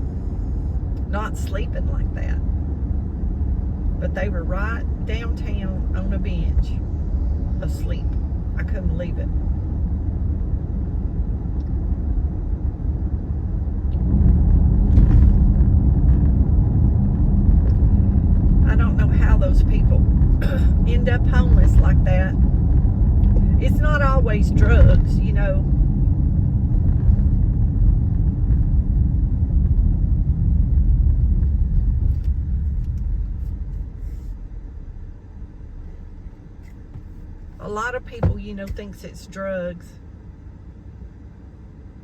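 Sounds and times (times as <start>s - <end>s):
engine and road noise in car: 0.0s - 42.0s.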